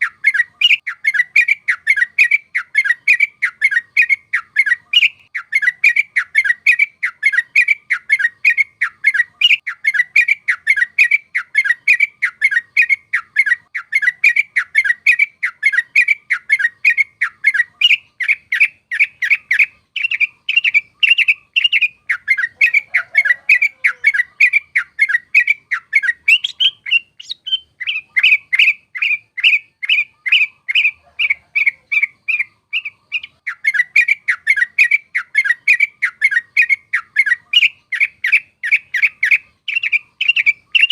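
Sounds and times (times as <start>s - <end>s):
bird singing bubbly notes: 0.0s - 40.9s.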